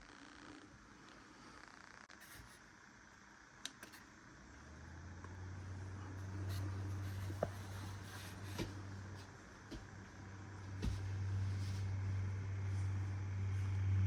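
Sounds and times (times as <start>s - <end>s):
device low hum: 0.0s - 14.0s.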